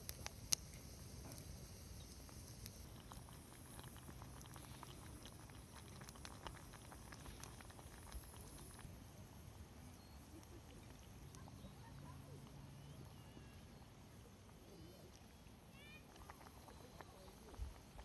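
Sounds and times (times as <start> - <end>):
campfire crackling: 0.0 - 9.5, 10.3 - 18.0
low steady hiss: 0.0 - 18.0.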